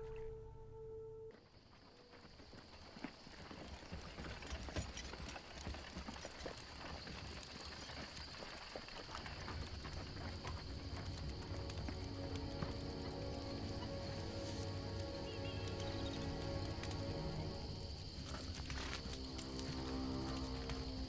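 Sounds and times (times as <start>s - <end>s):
horse hooves on soft ground: 1.3s - 21.0s.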